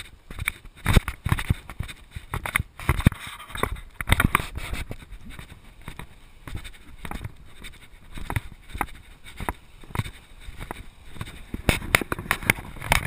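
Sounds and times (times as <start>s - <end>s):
camera rubbing and knocking on mount: 0.0s - 13.0s
footsteps crunching on sand: 0.0s - 13.0s.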